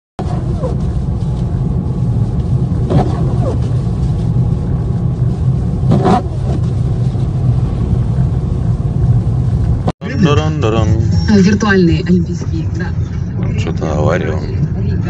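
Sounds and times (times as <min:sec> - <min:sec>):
car driving on snowy road: 0:00.2 - 0:15.0.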